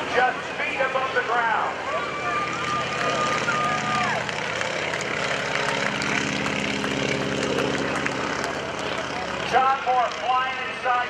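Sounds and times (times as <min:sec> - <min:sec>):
biplane engine droning: 0:00.0 - 0:11.0.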